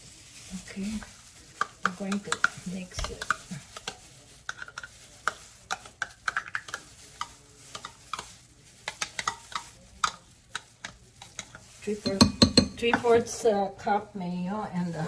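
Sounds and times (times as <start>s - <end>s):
spoon stirring in a bowl: 0.0s - 13.6s.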